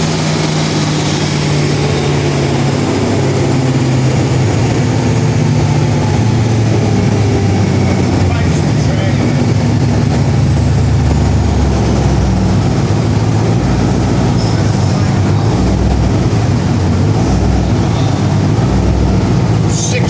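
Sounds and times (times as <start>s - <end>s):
engine rumbling steadily: 0.0s - 20.0s.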